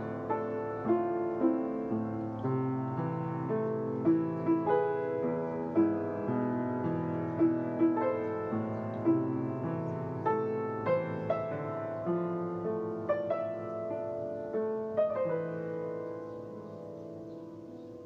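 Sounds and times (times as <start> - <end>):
slow tender piano melody: 0.0 - 18.0.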